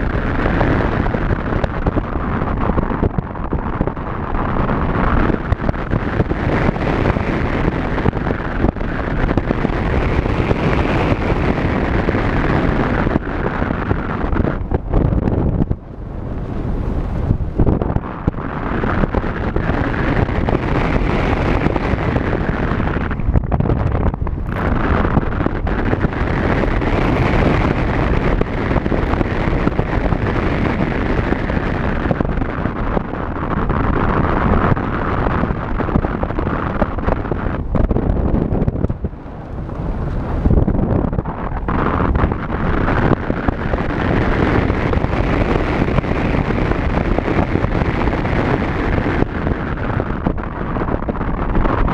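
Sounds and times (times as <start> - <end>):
car road and engine noise: 0.0 - 51.9
wind buffeting microphone: 0.0 - 51.9.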